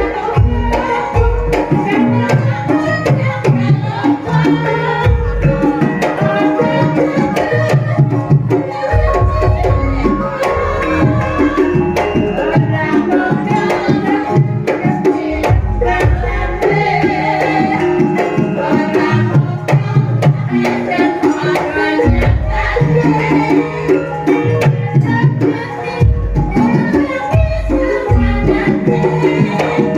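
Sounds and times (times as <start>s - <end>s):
ringing metallophone notes: 0.0s - 29.9s.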